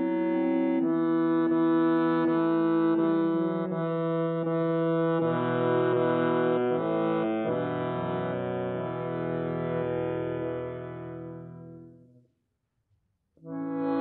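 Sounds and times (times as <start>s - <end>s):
button accordion playing chords: 0.0s - 11.9s, 13.5s - 14.0s.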